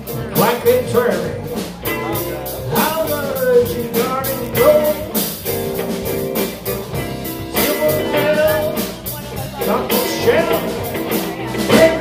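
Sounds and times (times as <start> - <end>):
blues band playing: 0.0 - 12.0
electric guitar lead: 0.0 - 12.0.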